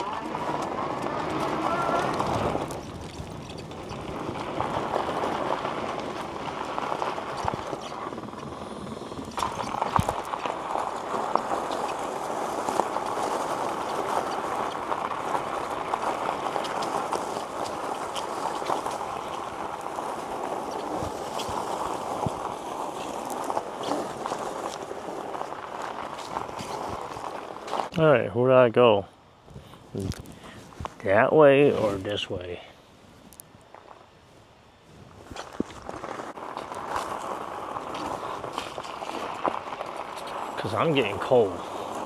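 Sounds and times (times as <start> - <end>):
tyre and wind rushing: 0.0 - 28.2, 29.3 - 42.0.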